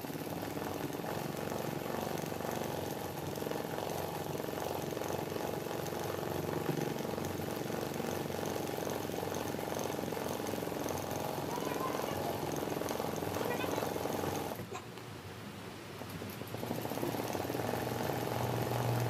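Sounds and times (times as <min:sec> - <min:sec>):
industrial sewing machine running: 0:00.0 - 0:14.6, 0:16.0 - 0:19.0.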